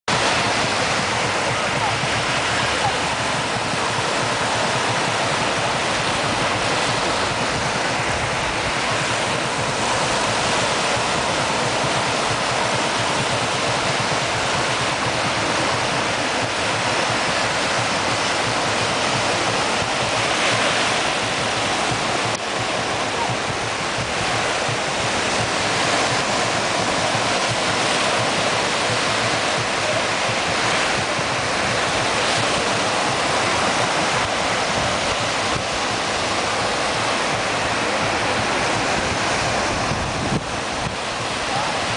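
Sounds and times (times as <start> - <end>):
small waves breaking on beach: 0.0 - 41.9.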